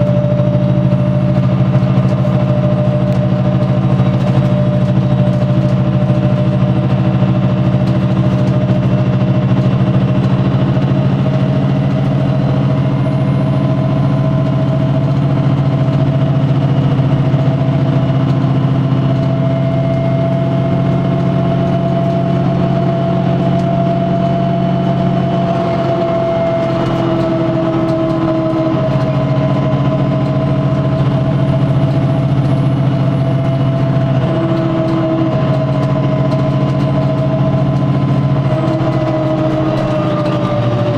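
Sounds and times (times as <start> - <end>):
bus engine drone: 0.0 - 40.9
engine whine: 0.0 - 40.9.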